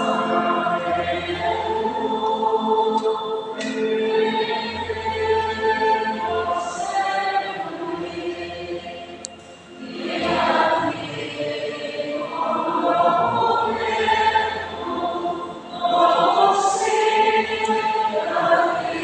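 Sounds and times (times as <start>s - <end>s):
choir singing long phrases: 0.0s - 19.0s.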